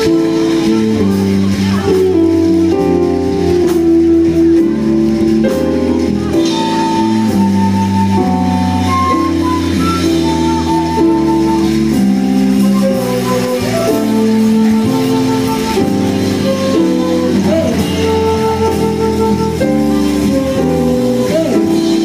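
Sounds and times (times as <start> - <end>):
drums and percussion: 0.0 - 22.0
electric bass: 0.0 - 22.0
held melody notes: 0.0 - 22.0
keyboard chords: 0.0 - 22.0
live jazz band playing: 0.0 - 22.0.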